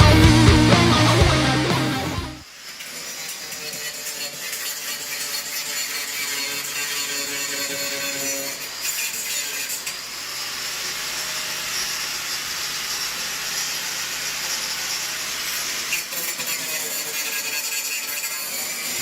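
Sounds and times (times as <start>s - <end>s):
power tool rasping on metal: 2.4s - 19.0s.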